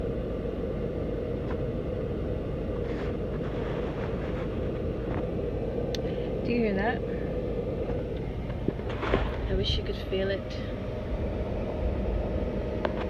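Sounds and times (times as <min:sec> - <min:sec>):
blower motor humming: 0:00.0 - 0:13.0.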